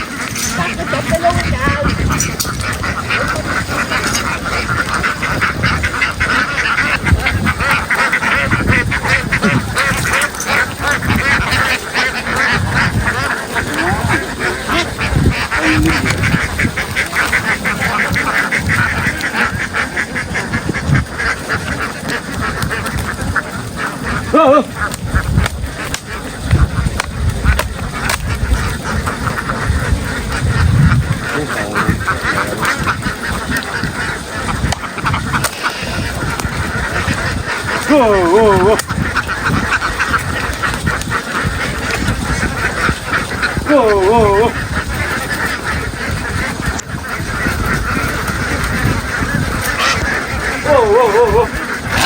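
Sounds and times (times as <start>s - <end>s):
ducks quacking: 0.0s - 52.0s.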